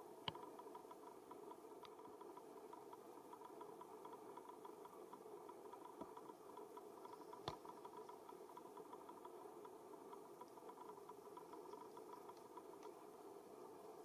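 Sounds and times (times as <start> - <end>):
faint background hum: 0.0 - 14.0
faint repeating ticks: 0.0 - 14.0.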